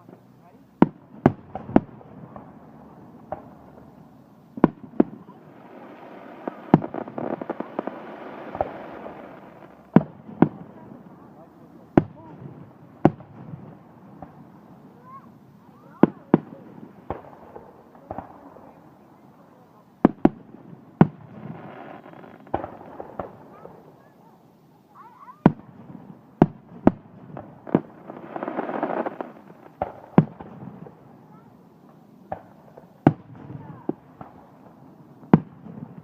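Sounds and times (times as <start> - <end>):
fireworks bangs: 0.0 - 36.0
fireworks hissing and crackling: 0.0 - 36.0.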